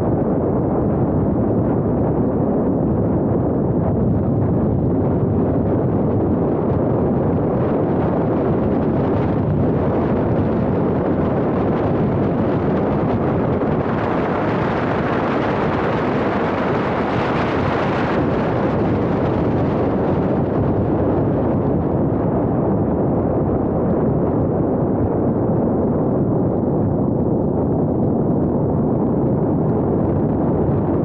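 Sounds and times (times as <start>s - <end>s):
wind and road noise rumble: 0.0s - 31.0s.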